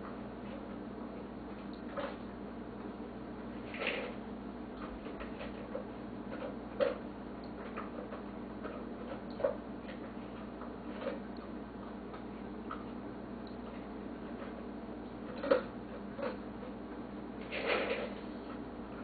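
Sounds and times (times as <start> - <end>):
steady low hum: 0.0 - 19.0
dog eating crunches and clicks: 1.5 - 2.4, 3.5 - 19.0.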